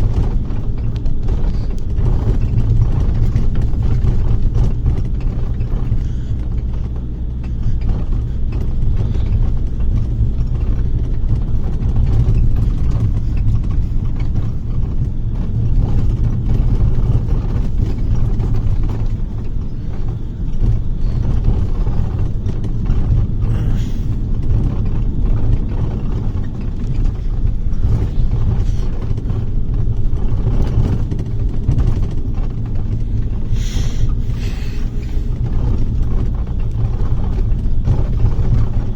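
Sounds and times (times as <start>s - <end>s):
bus body rattling: 0.0s - 38.9s
bus engine and road rumble: 0.0s - 38.9s.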